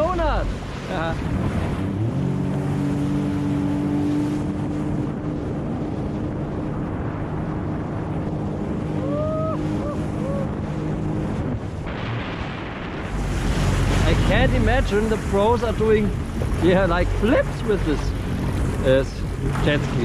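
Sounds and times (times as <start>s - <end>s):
jet ski engine running: 0.0s - 20.0s
rushing water: 0.0s - 20.0s
wind on microphone: 0.0s - 20.0s.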